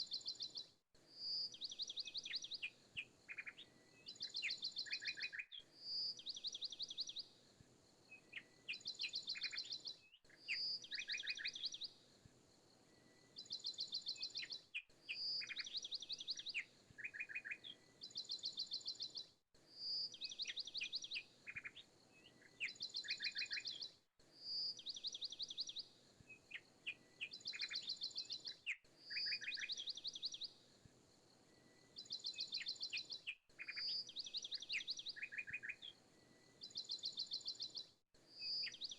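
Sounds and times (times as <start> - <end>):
birdsong trills and chirps: 0.0 - 7.4, 8.1 - 12.0, 13.0 - 30.6, 31.8 - 38.9.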